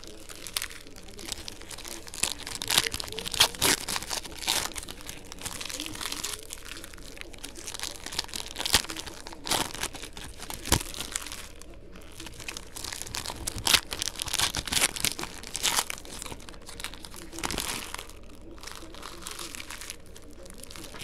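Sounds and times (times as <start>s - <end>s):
foil wrapper crinkling and tearing: 0.0s - 21.0s.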